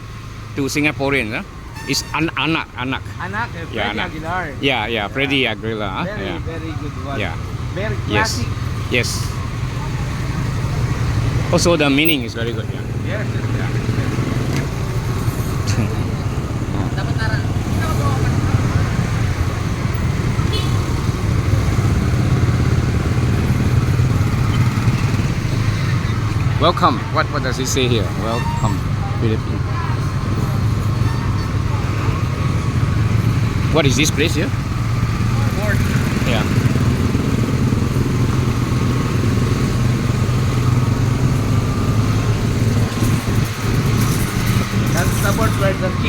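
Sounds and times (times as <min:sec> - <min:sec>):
motorcycle engine running: 0:00.0 - 0:46.0
road noise: 0:00.0 - 0:46.0.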